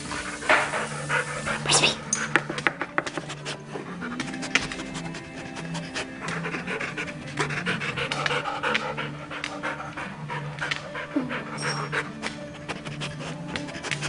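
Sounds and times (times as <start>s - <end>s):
dog panting and huffing: 0.0s - 14.0s
quiet background music: 0.0s - 14.0s.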